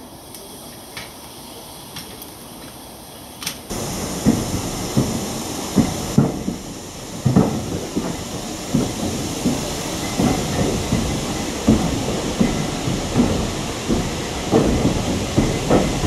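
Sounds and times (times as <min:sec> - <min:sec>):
railway carriage rumbling: 0:00.0 - 0:16.0
wheels clunking over rail joints: 0:00.3 - 0:16.0.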